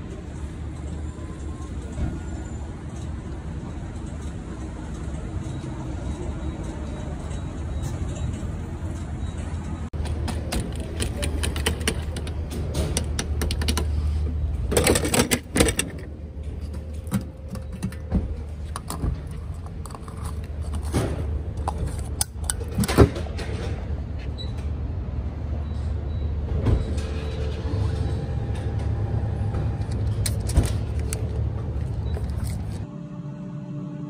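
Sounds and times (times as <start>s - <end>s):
vehicle rumble: 0.0s - 33.0s.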